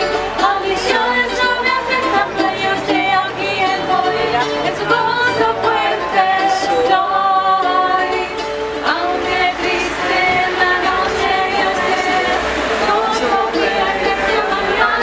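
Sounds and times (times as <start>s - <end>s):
strummed mandolin: 0.0s - 15.0s
woman singing: 0.0s - 15.0s.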